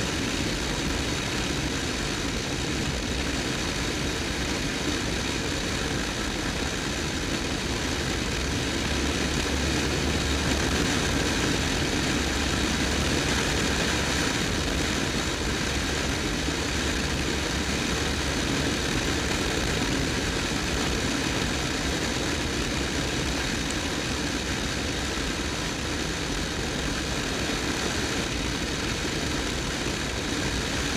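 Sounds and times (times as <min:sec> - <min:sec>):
wind and road rush: 0:00.0 - 0:30.9.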